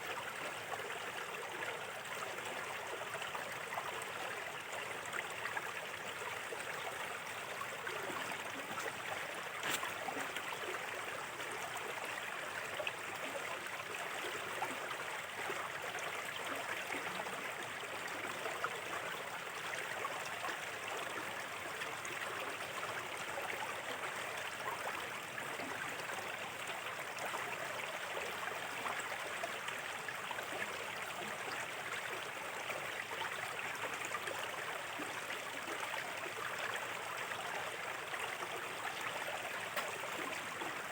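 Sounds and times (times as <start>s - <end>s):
shallow river babbling over stones: 0.0s - 40.9s.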